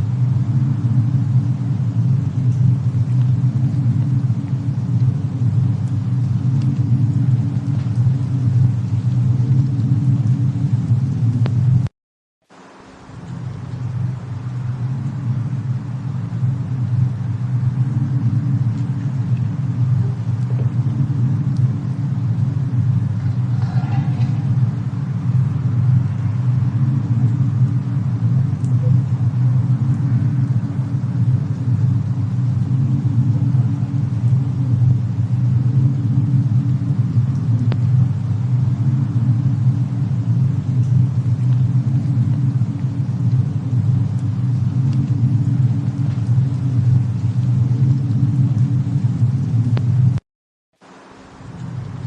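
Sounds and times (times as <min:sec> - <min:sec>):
loud low rumble: 0:00.0 - 0:11.9, 0:13.0 - 0:50.2
faint fire crackles: 0:00.0 - 0:50.2, 0:50.8 - 0:52.0.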